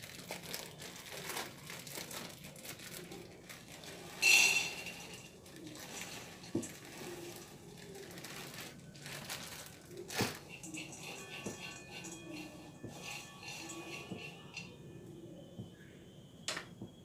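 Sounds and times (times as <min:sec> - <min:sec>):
plastic bag crinkling: 0:00.0 - 0:14.7.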